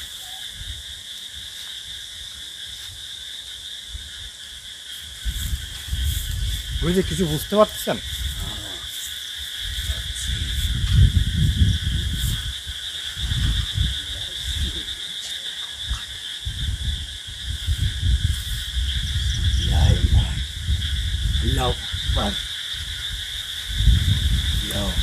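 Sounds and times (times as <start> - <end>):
wind buffeting microphone: 0.0 - 1.1, 5.1 - 8.9, 9.5 - 25.0
crickets chirring: 0.0 - 25.0.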